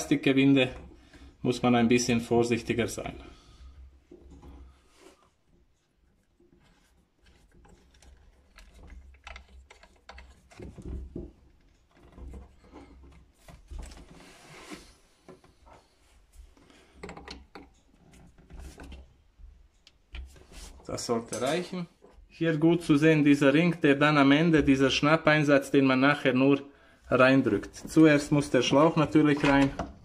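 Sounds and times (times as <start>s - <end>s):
rubbing handling noises: 0.0s - 25.2s.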